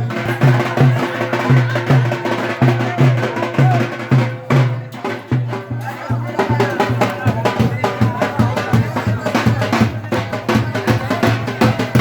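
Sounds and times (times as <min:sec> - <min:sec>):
deep drum beating steadily: 0:00.0 - 0:12.0
drum band music: 0:00.0 - 0:12.0.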